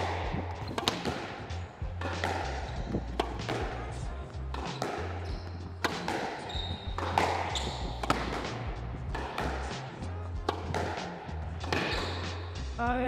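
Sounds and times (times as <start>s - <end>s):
court shoes squeaking: 0.0s - 12.7s
squash ball hitting racquets and walls: 0.0s - 12.7s.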